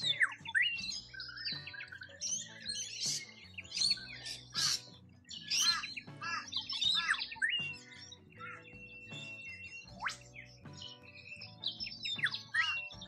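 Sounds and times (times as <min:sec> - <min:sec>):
birds chirping and squawking: 0:00.0 - 0:13.0
soft background music: 0:00.0 - 0:13.0.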